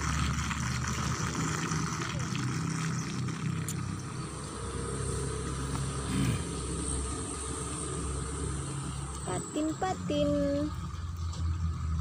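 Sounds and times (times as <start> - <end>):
high steady whine: 0.0 - 12.0
motor humming: 0.0 - 12.0.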